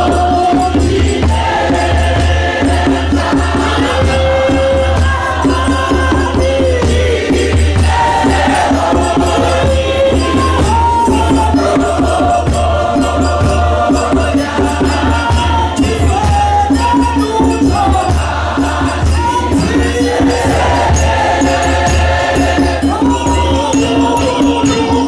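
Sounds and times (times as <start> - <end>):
choir singing a hymn: 0.0 - 25.0
rhythmic beat: 0.0 - 25.0.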